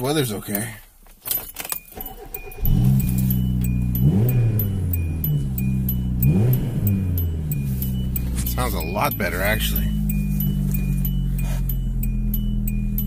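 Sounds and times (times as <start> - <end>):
car engine idling and revving: 2.0 - 13.0.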